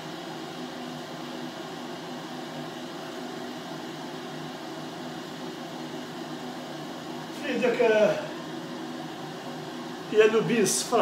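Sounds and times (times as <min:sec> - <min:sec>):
extractor fan whirring: 0:00.0 - 0:11.0.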